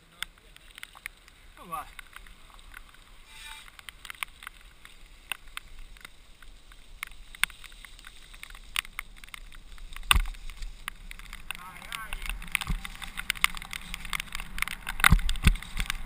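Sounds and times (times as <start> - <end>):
mountain bike rattling on dirt trail: 0.0 - 16.0.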